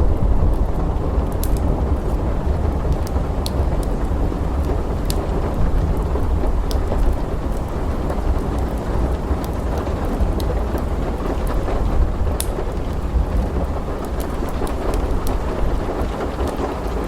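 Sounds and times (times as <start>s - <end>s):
heavy rain: 0.0s - 17.0s
thunder rumbling: 0.0s - 17.0s
wood fire crackling: 0.0s - 17.0s.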